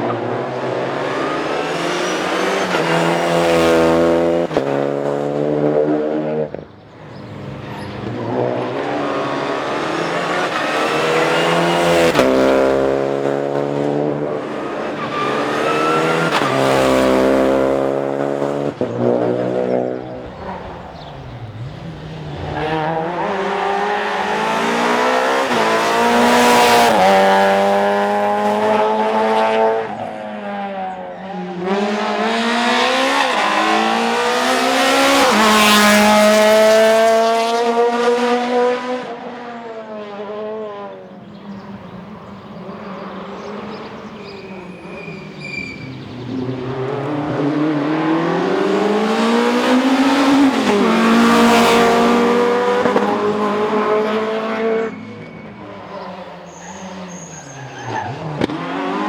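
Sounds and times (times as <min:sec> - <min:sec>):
rally cars accelerating: 0:00.0 - 0:59.0.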